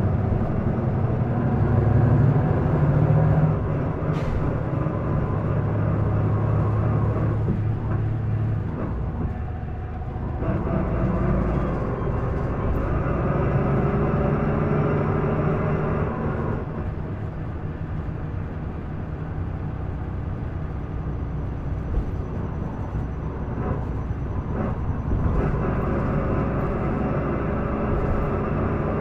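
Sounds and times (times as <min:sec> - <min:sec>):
bus diesel engine: 0:00.0 - 0:29.0.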